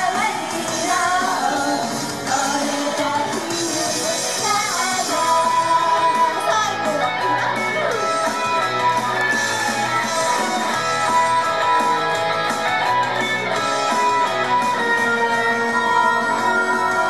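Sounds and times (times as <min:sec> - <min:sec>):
pop-rock instrumental with electric guitar: 0:00.0 - 0:17.0.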